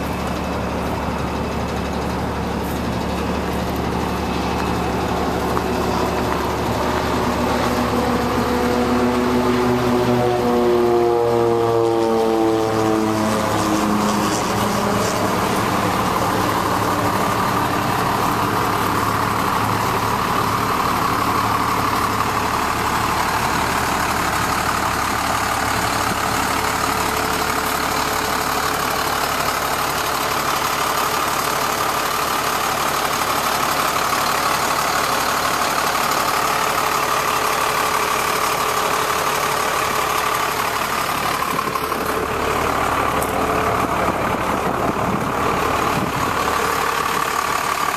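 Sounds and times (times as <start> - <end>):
diesel engine idling: 0.0 - 47.9
steady whine: 0.0 - 47.9.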